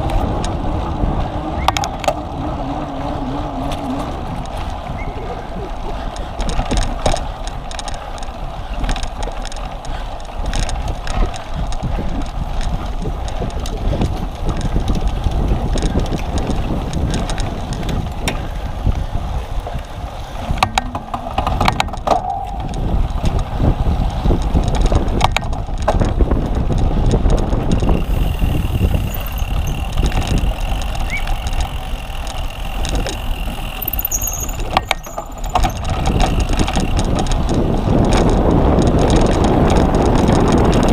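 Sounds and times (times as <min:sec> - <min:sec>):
bike knocking and rattling: 0:00.0 - 0:40.9
bike tyres rumbling: 0:00.0 - 0:40.9
wind against microphone: 0:00.0 - 0:40.9.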